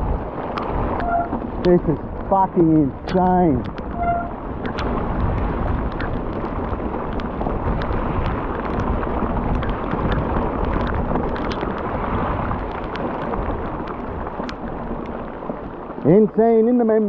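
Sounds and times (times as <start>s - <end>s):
driving rain: 0.0s - 17.0s
heavy wind on microphone: 0.0s - 17.0s.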